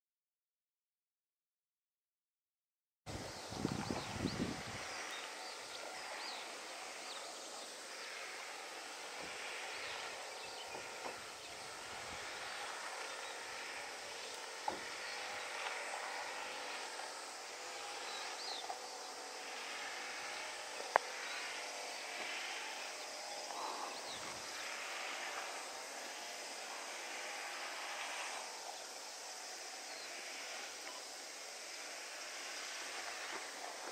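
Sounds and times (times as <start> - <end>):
insects buzzing: 3.1 - 33.9.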